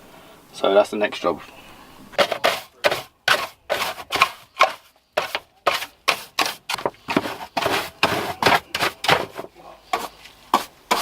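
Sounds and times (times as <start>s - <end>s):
hand brush sweeping metal floor: 2.2s - 11.0s.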